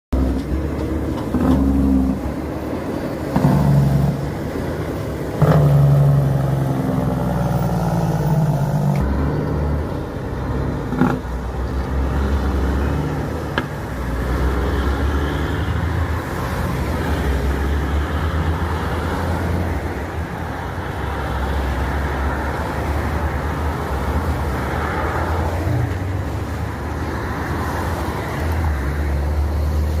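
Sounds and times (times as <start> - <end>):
truck engine driving: 0.1 - 30.0.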